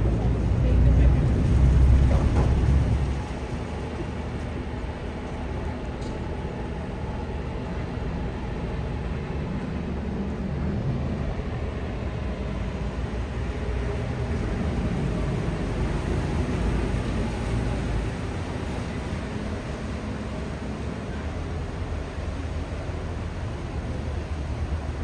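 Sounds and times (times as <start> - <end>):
rushing water: 0.0 - 8.0, 12.6 - 25.0
ferry engine drone: 0.0 - 25.0.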